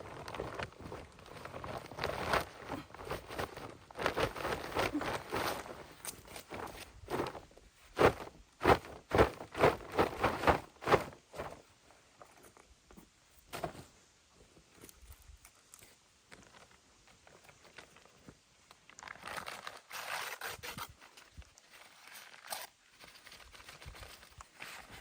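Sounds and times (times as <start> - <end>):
rustling and scraping: 0.0 - 25.0.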